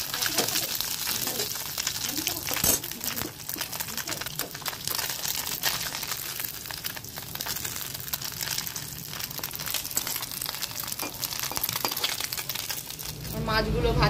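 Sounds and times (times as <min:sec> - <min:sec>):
oil sizzling and popping: 0:00.0 - 0:14.0.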